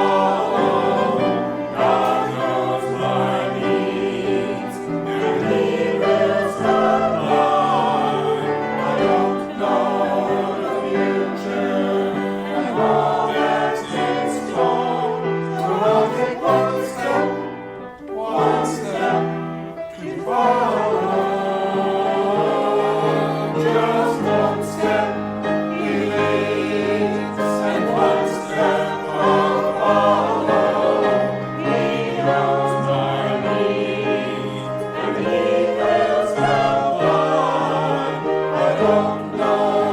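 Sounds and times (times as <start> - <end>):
choir singing held chords: 0.0 - 39.9.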